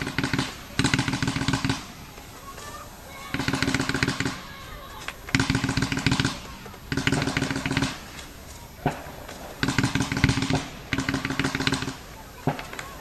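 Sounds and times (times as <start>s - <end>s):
firework bang: 0.0s - 13.0s
fireworks crackling: 0.0s - 13.0s.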